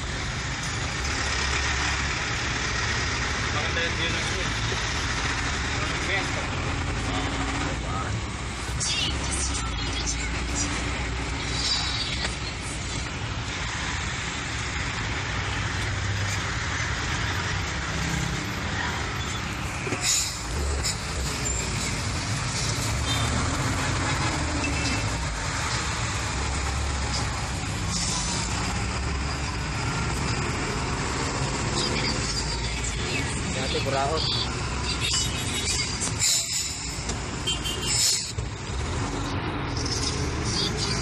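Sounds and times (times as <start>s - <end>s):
surrounding traffic: 0.0s - 41.0s
vehicle engine and road rumble: 0.0s - 41.0s.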